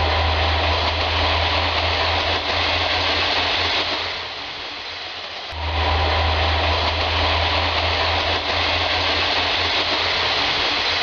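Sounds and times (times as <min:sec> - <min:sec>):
train running past: 0:00.0 - 0:11.0.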